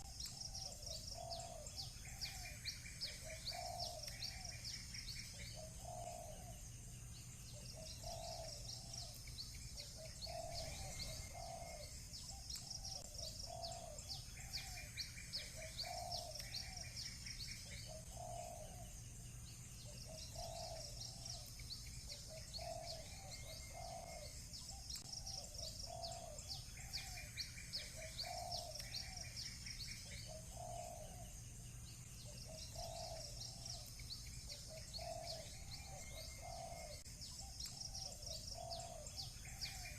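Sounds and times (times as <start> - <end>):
doves cooing: 0.0 - 19.1, 19.8 - 31.4, 32.2 - 39.9
small birds chirping: 0.0 - 39.9.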